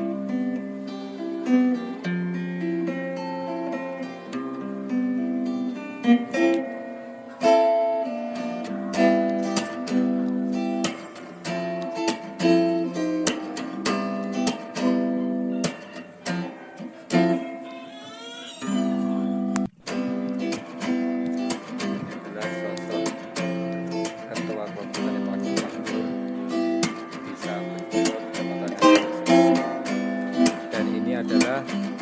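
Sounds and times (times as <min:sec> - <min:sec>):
acoustic guitar music: 0:00.0 - 0:32.0.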